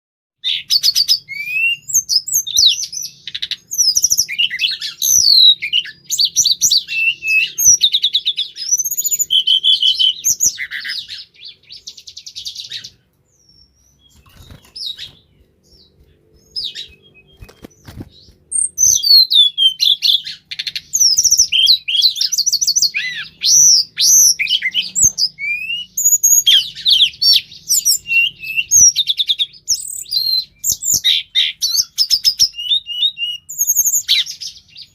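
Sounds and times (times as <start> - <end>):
songbird singing whistles and trills: 0.4 - 34.9.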